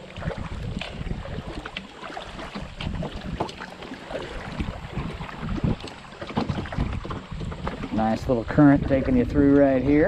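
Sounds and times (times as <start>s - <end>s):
water dripping off paddle: 0.0s - 9.8s
paddle splashing in water: 0.0s - 9.9s
wind rumble on microphone: 0.0s - 10.0s.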